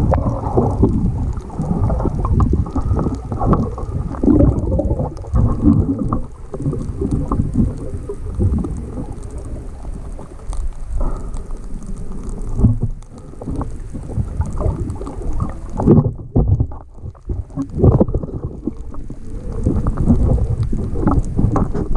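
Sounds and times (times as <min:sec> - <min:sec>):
underwater water sloshing and rumbling: 0:00.0 - 0:21.9.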